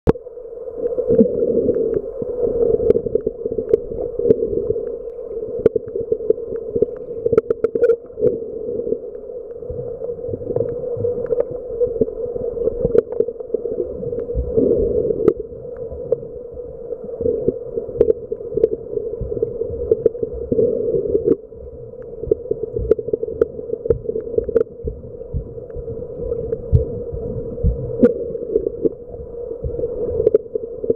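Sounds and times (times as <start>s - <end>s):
dull underwater rumble: 0.1s - 30.9s
faint clicks: 0.8s - 8.4s, 9.0s - 14.6s, 15.2s - 30.9s.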